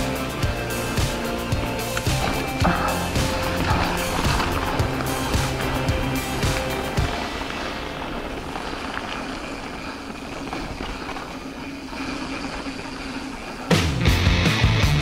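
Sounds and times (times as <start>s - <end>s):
bike tyres rolling on dirt: 0.0s - 15.0s.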